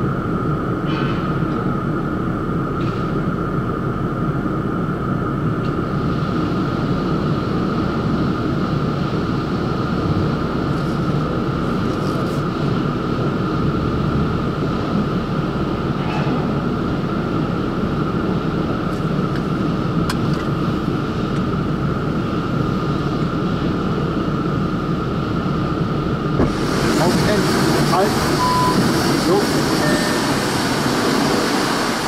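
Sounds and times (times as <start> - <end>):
constant hum: 0.0 - 32.0
car wash machinery rushing: 5.3 - 32.0.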